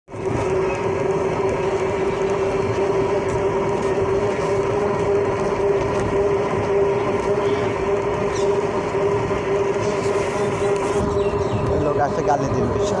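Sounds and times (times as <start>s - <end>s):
road rumble: 0.1s - 13.0s
van whine: 0.1s - 13.0s.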